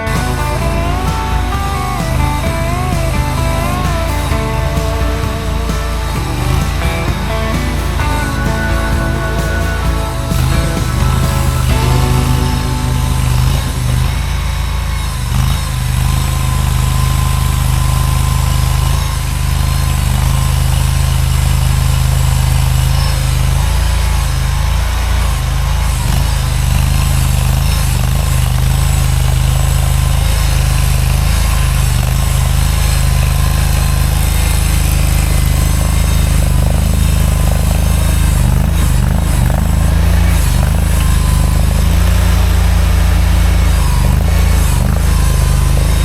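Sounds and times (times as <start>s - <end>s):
skid steer engine droning: 0.0s - 46.0s.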